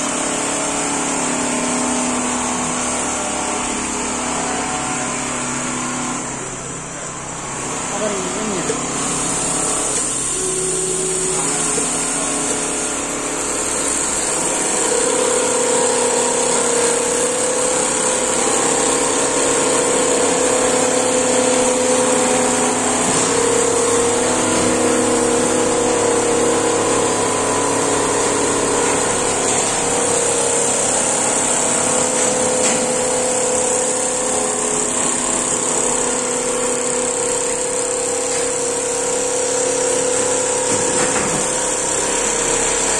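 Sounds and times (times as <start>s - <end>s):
quilting machines droning: 0.0s - 42.9s.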